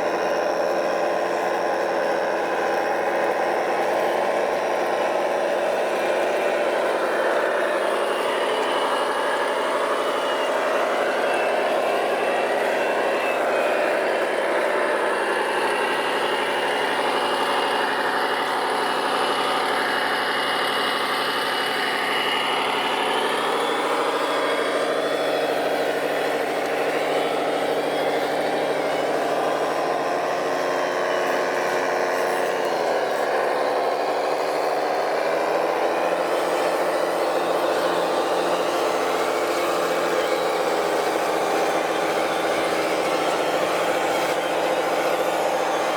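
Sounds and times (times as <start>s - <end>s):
rc truck motors whining: 0.0s - 45.9s.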